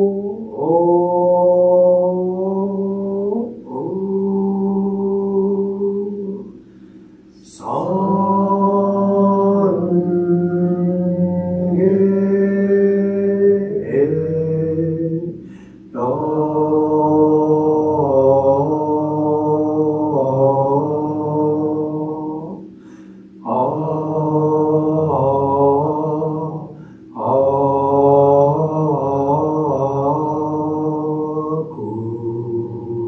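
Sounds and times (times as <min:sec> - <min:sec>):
man chanting: 0:00.0 - 0:06.6, 0:07.3 - 0:22.7, 0:23.4 - 0:33.0.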